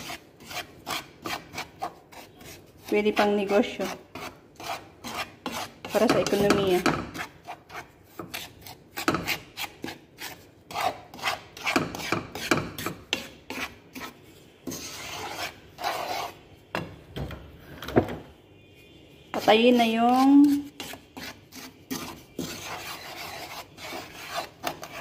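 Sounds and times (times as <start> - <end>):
wooden spatula scraping pan: 0.0 - 16.8, 19.3 - 25.0.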